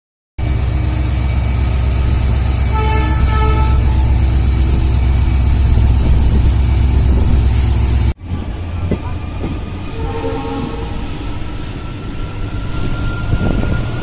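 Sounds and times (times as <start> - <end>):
diesel locomotive engine throbbing: 0.4 - 14.0
track noise: 0.4 - 14.0.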